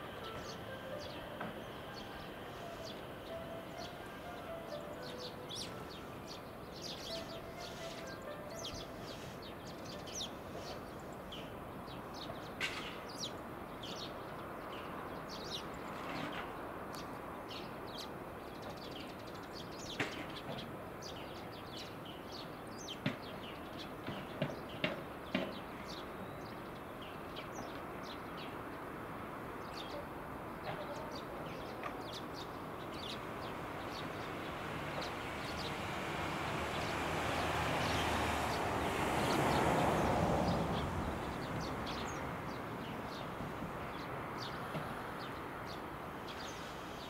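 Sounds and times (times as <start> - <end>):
small birds chirping: 0.0 - 28.8, 29.6 - 47.0
steady background noise: 0.0 - 47.0.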